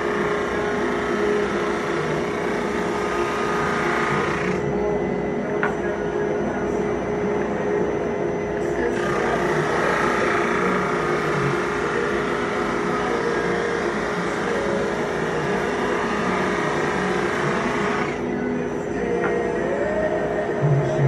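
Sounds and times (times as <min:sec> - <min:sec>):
drum sander motor humming: 0:00.0 - 0:21.0.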